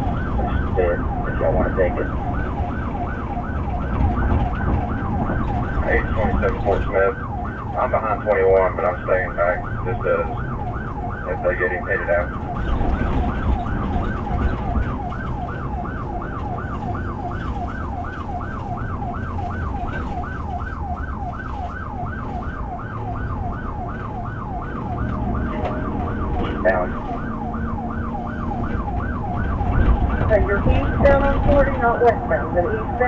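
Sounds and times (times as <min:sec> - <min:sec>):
engine and road noise: 0:00.0 - 0:33.0
police siren yelp: 0:00.0 - 0:33.0.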